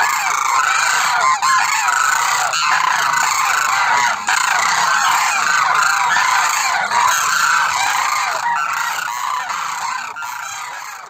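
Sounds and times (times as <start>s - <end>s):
flock of cranes calling: 0.0s - 11.0s.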